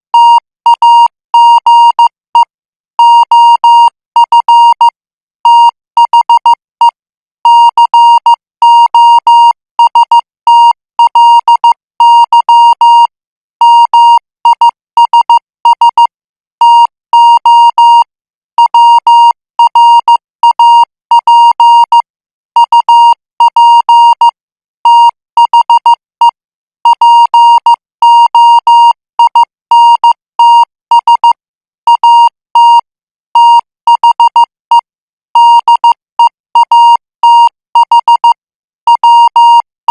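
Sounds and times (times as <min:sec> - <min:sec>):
morse code beeps: 0:00.1 - 0:39.9.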